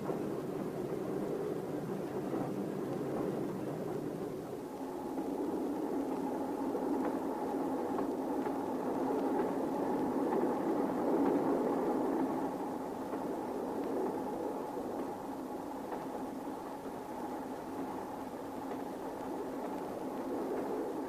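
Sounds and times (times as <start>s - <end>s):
faint steady hum: 0.0s - 21.0s
train running rumble: 0.0s - 21.0s.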